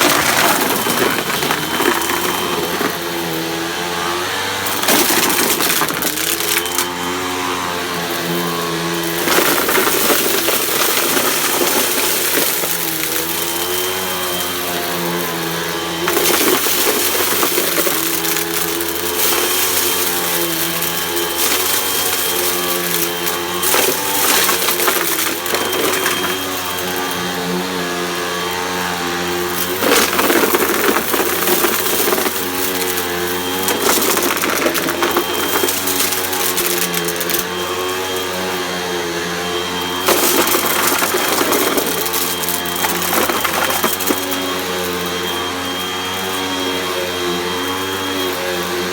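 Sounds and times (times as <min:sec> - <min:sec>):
vacuum cleaner running: 0:00.0 - 0:48.9.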